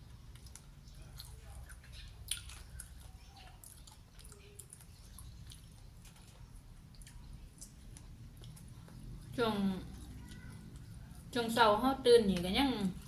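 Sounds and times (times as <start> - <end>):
person chewing food: 0.0 - 11.4.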